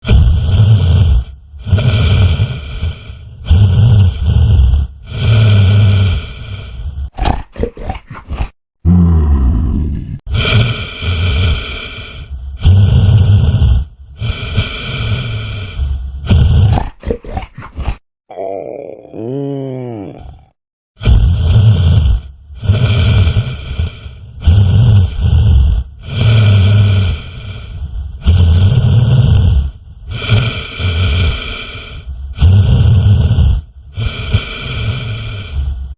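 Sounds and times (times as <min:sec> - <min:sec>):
loud snoring: 0:00.0 - 0:07.6, 0:08.9 - 0:17.4, 0:18.3 - 0:35.7.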